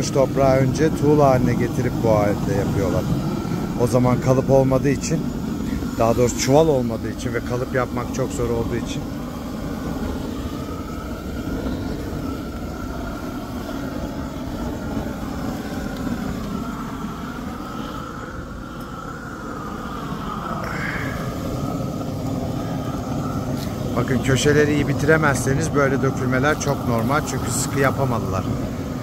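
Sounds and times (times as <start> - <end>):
gas torch burning: 0.0 - 29.0.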